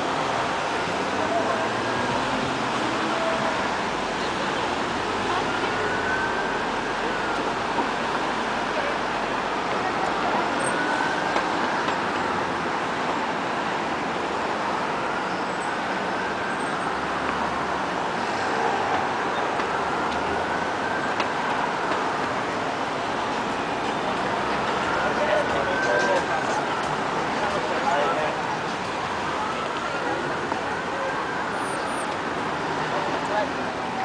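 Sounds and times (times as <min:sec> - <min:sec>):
road traffic: 0:00.0 - 0:34.0.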